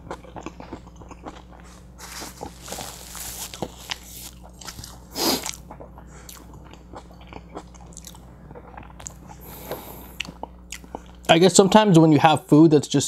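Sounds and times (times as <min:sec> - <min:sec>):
chewing with wet mouth sounds: 0:00.0 - 0:11.3.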